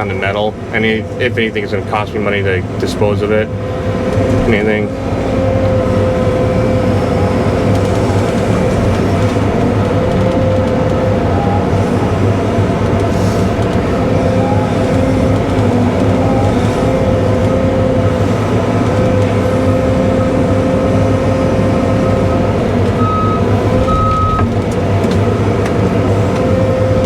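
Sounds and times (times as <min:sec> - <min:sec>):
excavator diesel engine running: 0:00.0 - 0:27.0
hydraulic whine: 0:00.0 - 0:27.0.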